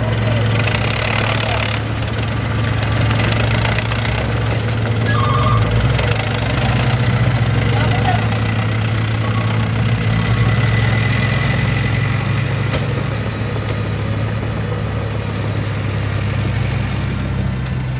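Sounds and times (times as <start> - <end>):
truck engine droning: 0.0 - 17.9.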